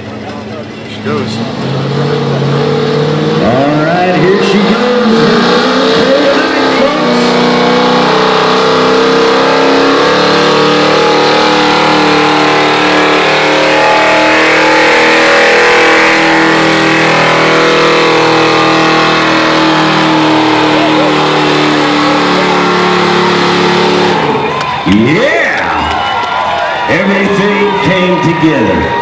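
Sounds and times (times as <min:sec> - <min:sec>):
pickup engine at high revs: 0:00.0 - 0:25.9.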